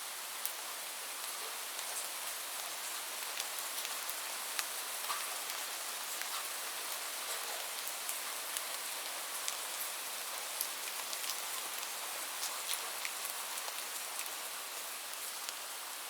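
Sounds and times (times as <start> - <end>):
light rain falling: 0.0 - 16.0
raindrops ticking on surface: 0.4 - 15.7.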